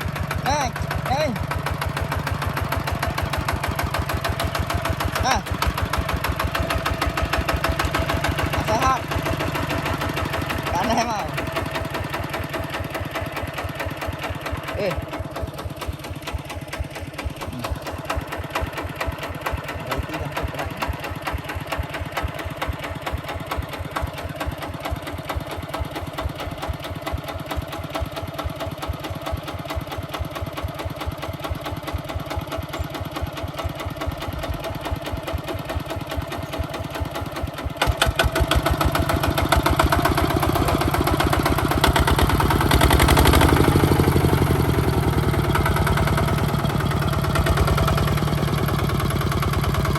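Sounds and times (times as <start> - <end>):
tractor diesel engine chugging: 0.0 - 49.9.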